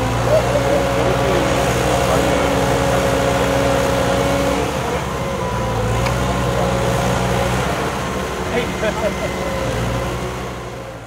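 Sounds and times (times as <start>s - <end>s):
excavator diesel engine: 0.0s - 11.0s.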